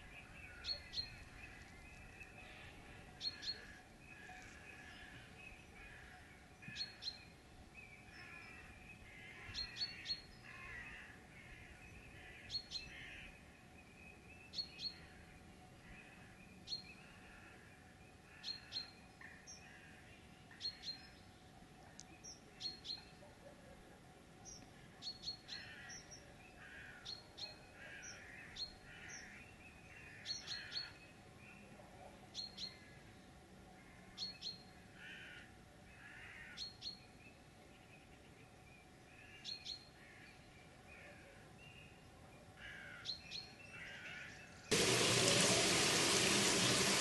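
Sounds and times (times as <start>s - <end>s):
chorus of birdsong: 0.0s - 47.0s.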